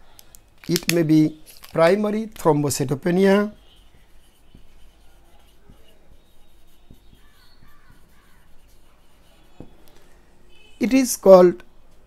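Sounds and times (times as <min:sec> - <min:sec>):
marker writing on whiteboard: 0:00.7 - 0:10.7.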